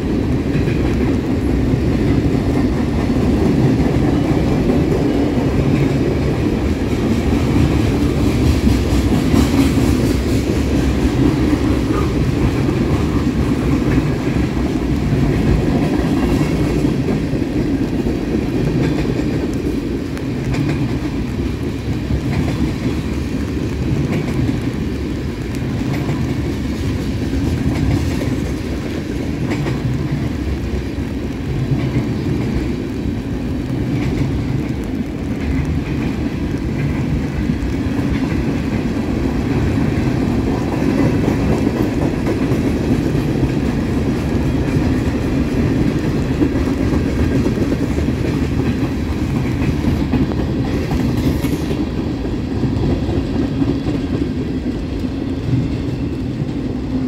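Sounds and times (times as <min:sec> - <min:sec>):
freight train rumbling past: 0:00.0 - 0:57.0
train wheels clattering over rail joints: 0:00.0 - 0:57.0.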